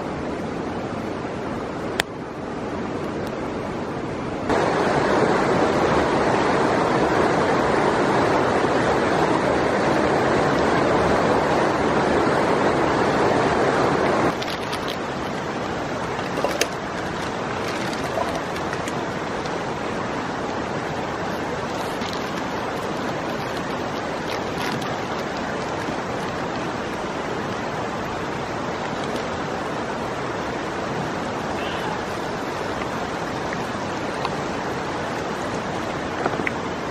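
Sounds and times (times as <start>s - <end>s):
river rushing: 0.0s - 36.9s.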